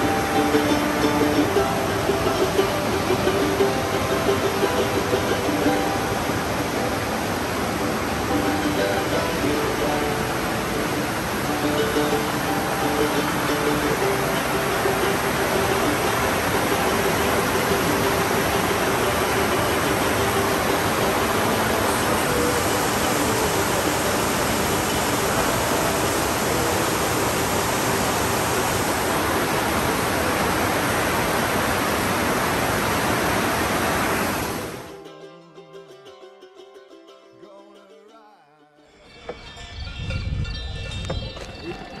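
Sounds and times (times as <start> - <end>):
river rushing over rocks: 0.0 - 35.0.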